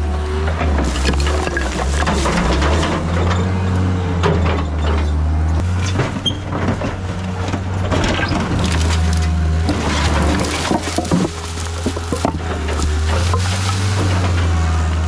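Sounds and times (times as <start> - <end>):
skid steer diesel engine running: 0.0 - 15.0
machine clanks and knocks: 0.4 - 14.7.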